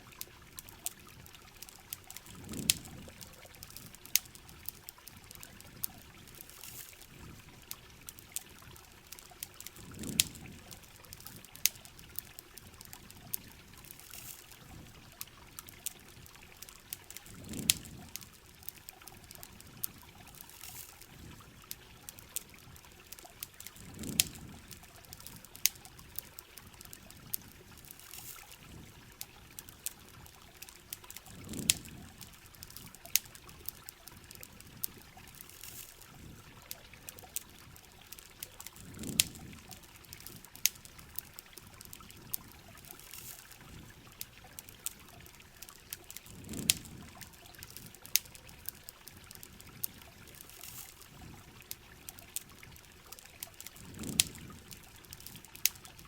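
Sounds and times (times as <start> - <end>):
campfire crackling: 0.0 - 56.0
heavy rain on a camping shell: 0.0 - 56.0.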